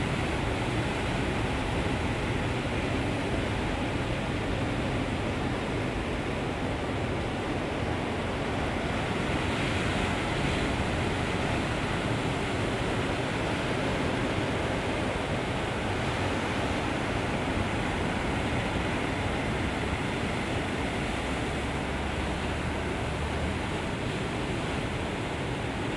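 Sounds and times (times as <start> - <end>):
ocean waves breaking: 0.0 - 25.9.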